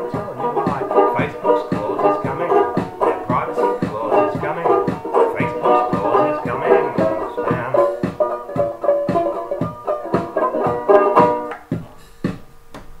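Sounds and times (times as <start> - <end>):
banjo strumming: 0.0 - 12.3.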